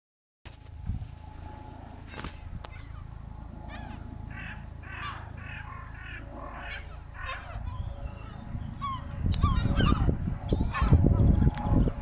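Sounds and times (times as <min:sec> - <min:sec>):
low buffeting of wings: 0:00.5 - 0:12.0
gulls calling harshly: 0:01.3 - 0:12.0.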